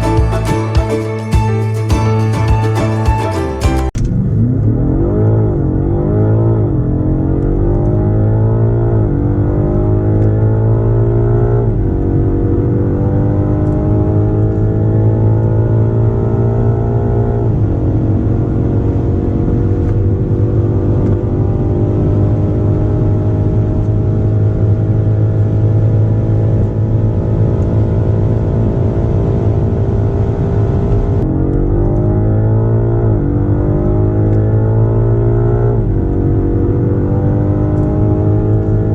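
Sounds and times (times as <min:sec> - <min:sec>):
car engine accelerating through gears: 0:04.0 - 0:38.9.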